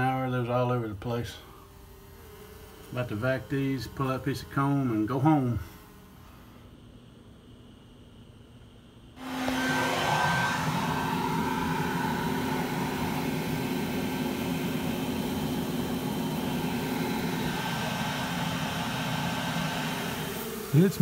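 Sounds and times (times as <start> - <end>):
bee vacuum running: 0.0 - 8.1, 9.1 - 21.0.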